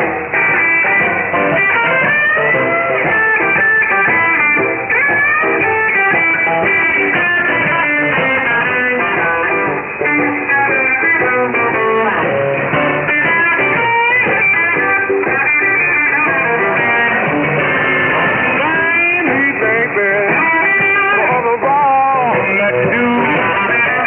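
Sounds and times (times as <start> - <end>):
guitar music through radio: 0.0 - 24.0.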